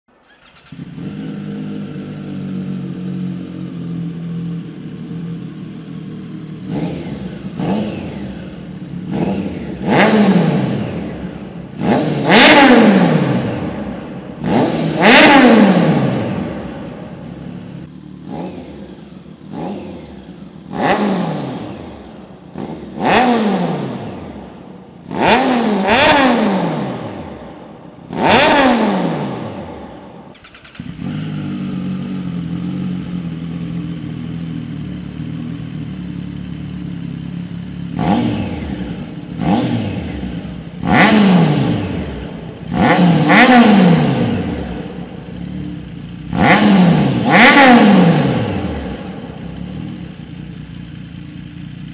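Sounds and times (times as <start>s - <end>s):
motorcycle engine revving: 0.1s - 51.9s.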